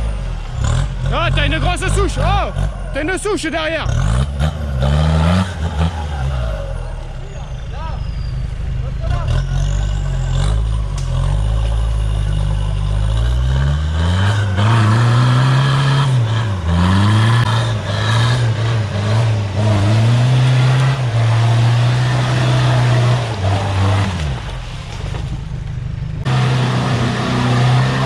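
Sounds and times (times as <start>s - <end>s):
off-road vehicle engine revving: 0.0s - 28.0s.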